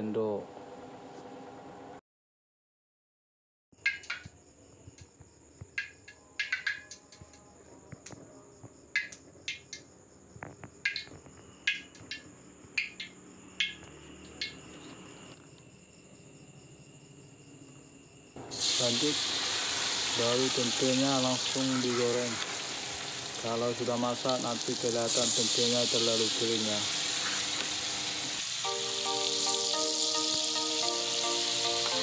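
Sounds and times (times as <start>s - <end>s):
crickets chirping: 3.8s - 32.0s.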